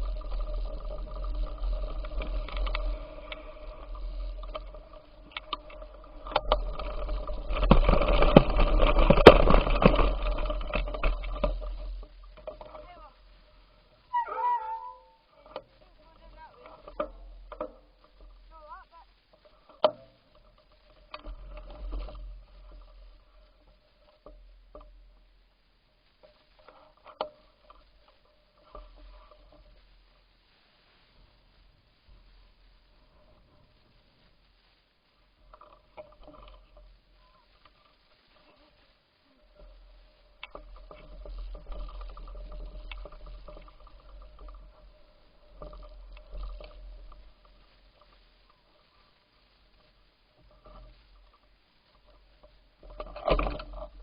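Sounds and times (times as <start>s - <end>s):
bicycle rattling and clicking: 0.0s - 25.3s, 26.2s - 29.9s, 35.4s - 54.0s
faint low rumble: 0.0s - 54.0s.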